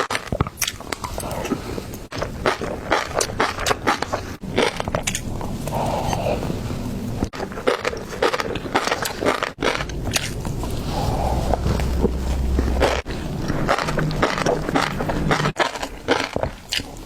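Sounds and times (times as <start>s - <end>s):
crunching bites and chewing: 0.0s - 6.5s, 7.2s - 17.0s.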